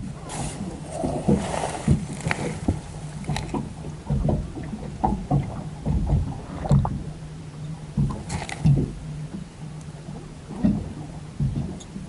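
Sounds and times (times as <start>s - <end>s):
steady low hum: 0.0s - 12.0s
waves slapping boat hull: 0.0s - 12.0s.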